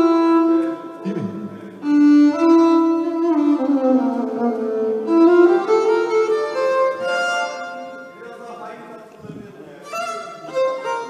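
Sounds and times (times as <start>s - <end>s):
bowed violin: 0.0s - 8.8s, 9.8s - 11.0s.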